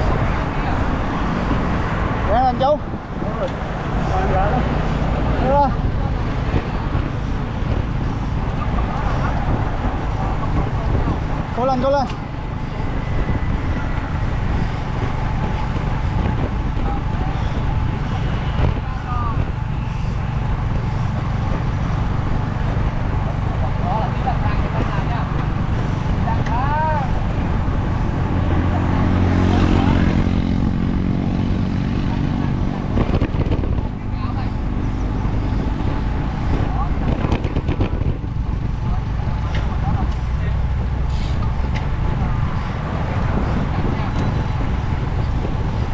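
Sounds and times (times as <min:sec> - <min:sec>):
vehicle engine running steadily: 0:00.0 - 0:45.9
wind and road rumble: 0:00.0 - 0:45.9.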